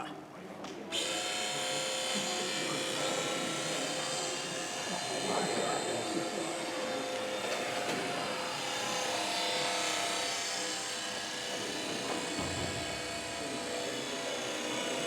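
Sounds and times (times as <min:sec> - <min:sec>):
model plane motor whine: 0:00.9 - 0:15.0.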